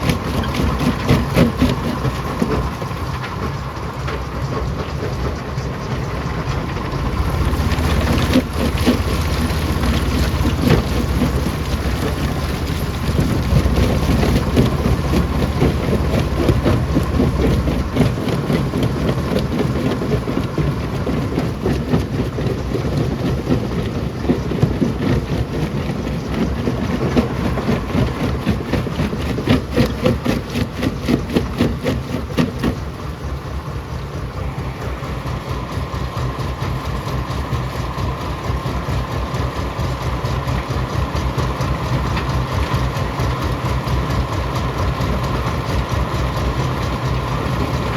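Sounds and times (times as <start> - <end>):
stones rattling through rock crusher: 0.0 - 5.3, 5.9 - 33.1, 38.7 - 47.9
rock crusher machine hum: 0.0 - 47.9.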